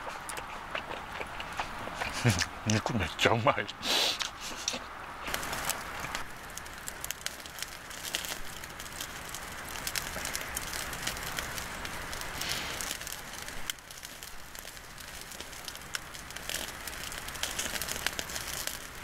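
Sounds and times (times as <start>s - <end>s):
wood fire crackling and popping: 0.0s - 3.2s, 4.1s - 19.0s.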